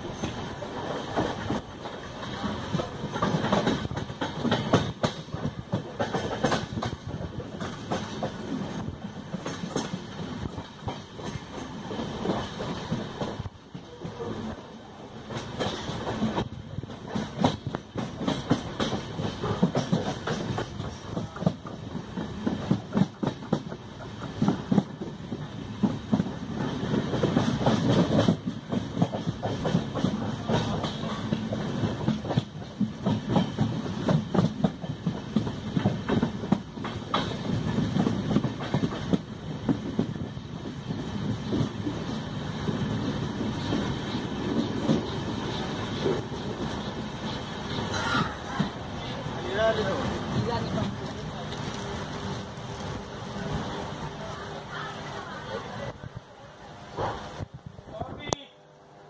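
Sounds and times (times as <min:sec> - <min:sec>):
train wheels clattering over rail joints: 0:00.0 - 0:14.6, 0:15.2 - 0:53.0.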